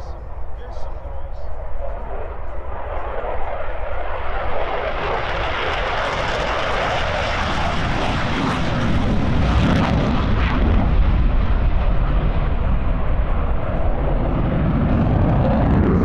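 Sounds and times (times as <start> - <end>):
deep jet rumble: 0.0 - 16.0
jet engine roar: 0.0 - 16.0.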